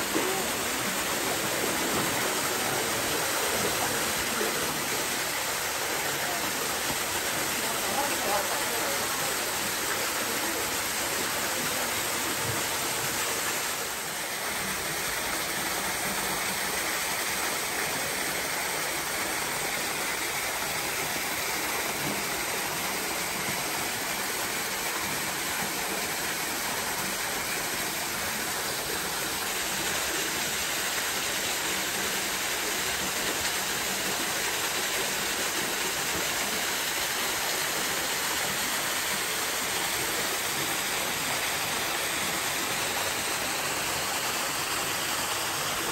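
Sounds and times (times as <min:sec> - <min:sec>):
water pouring into a pool: 0:00.0 - 0:45.9.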